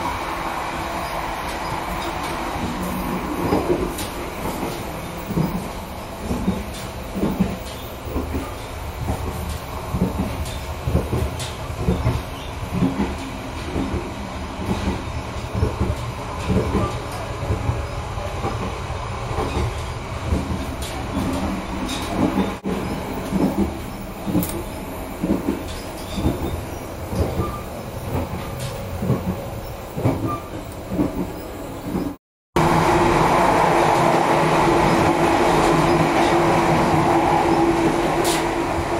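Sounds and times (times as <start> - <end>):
train rumbling with knocks and rattles: 0.0 - 38.9.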